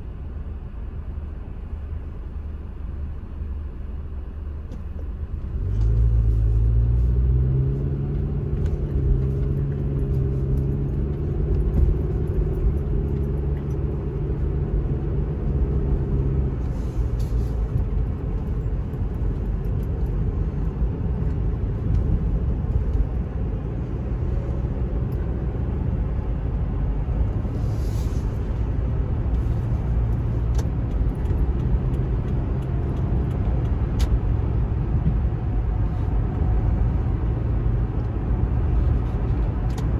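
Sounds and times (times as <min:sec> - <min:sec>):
road and tyre rumble: 0:00.0 - 0:39.9
car engine accelerating: 0:04.7 - 0:39.9.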